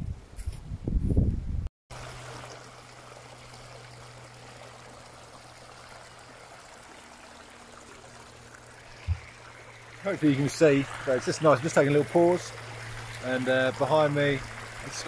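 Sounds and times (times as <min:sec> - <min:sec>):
water rushing over a weir: 0:01.9 - 0:15.0.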